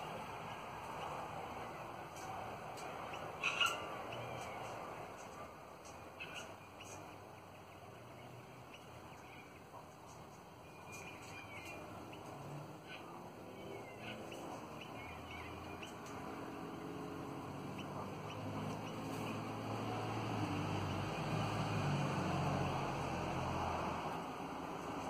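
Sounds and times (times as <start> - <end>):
parrots chirping softly: 0.0 - 21.7.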